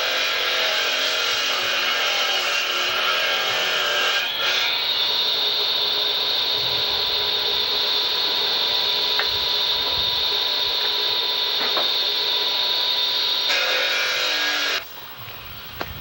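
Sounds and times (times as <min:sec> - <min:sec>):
wet saw grinding whine: 0:00.0 - 0:15.9.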